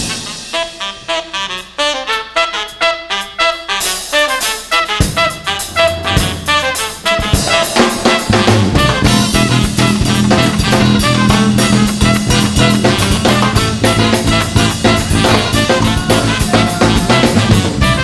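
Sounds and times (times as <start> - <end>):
drum kit beat: 0.0 - 18.0
horns: 0.0 - 18.0
ska band playing: 0.0 - 18.0
held bass notes: 3.6 - 18.0.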